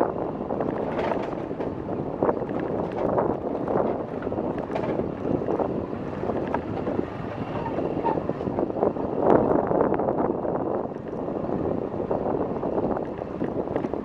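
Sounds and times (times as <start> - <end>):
wind gusting on microphone: 0.0 - 14.0.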